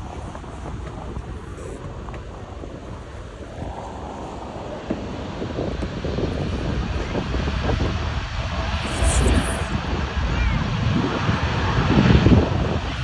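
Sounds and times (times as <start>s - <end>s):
jet engines at takeoff: 0.0s - 13.0s
wind buffeting microphone: 0.0s - 13.0s.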